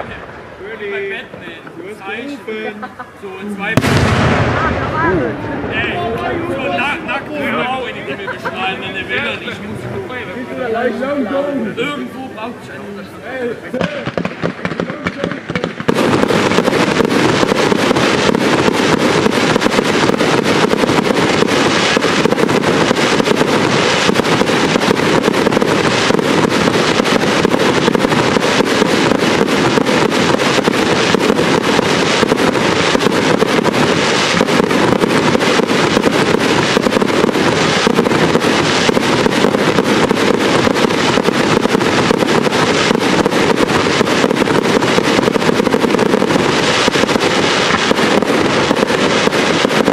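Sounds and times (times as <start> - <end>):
fireworks crackling and popping: 0.0 - 49.9.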